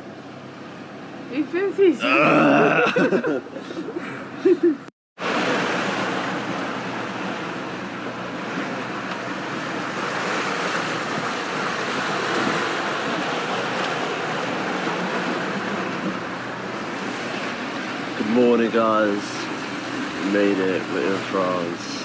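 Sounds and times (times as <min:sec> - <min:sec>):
sea waves: 0:00.0 - 0:22.0
wind: 0:00.0 - 0:22.0.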